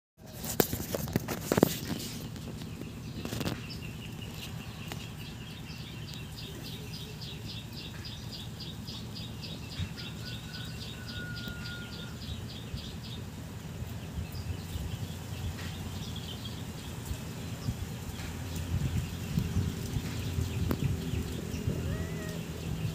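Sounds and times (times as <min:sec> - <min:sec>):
rustling of dry leaves: 0:00.2 - 0:22.9.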